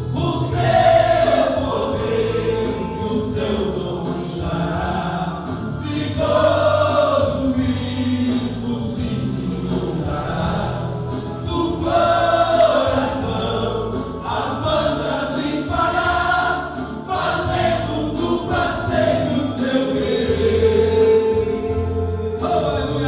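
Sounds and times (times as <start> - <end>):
men's choir singing a hymn: 0.0 - 23.0.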